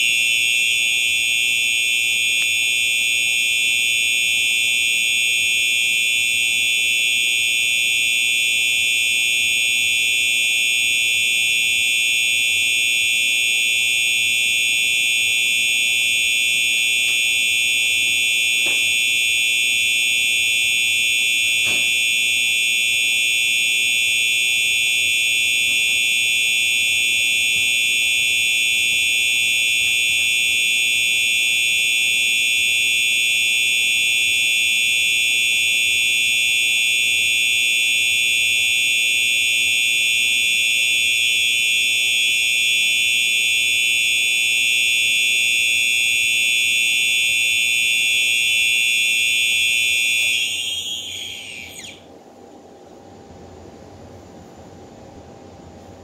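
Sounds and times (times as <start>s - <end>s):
fire alarm horn tone: 0.0s - 52.2s.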